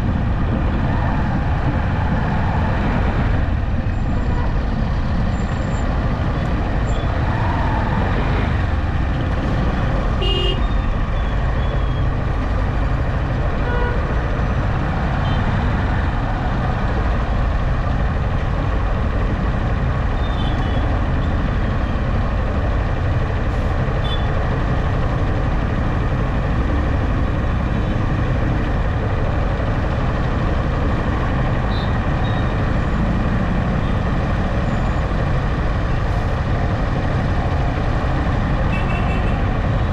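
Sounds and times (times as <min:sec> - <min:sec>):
vehicle road noise: 0:00.0 - 0:39.9.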